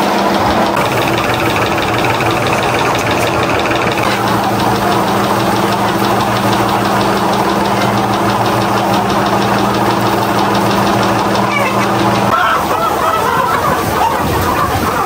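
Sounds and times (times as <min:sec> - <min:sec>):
fast regular ticking: 0:00.0 - 0:12.3
small engine running: 0:00.0 - 0:12.4.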